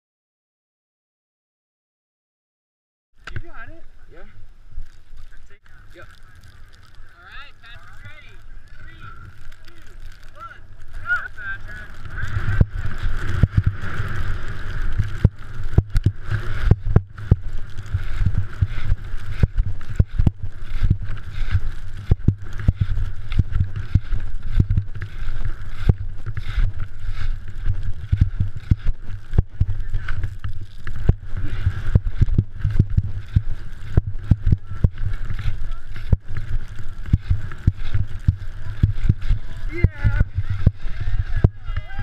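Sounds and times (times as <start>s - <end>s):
wind and ski noise rumble: 3.2s - 42.0s
skis knocking on bumps: 4.9s - 42.0s.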